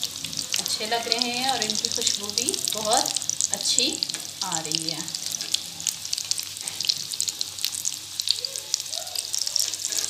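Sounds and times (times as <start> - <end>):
food frying in hot oil: 0.0 - 10.0.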